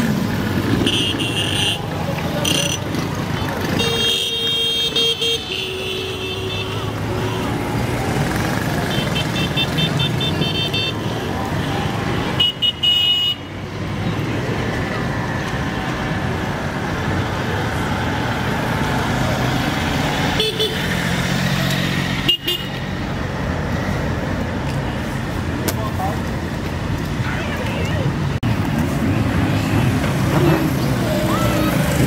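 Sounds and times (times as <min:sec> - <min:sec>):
vehicle engines rumbling: 0:00.0 - 0:32.0.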